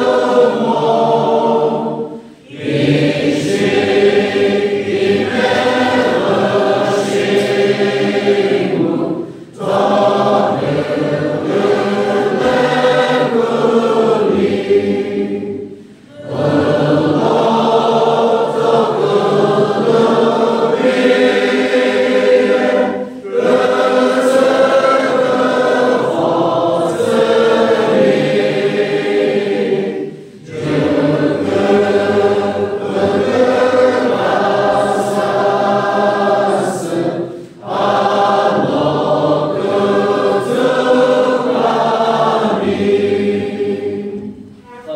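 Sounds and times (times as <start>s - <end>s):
congregation singing a hymn: 0.0s - 44.9s.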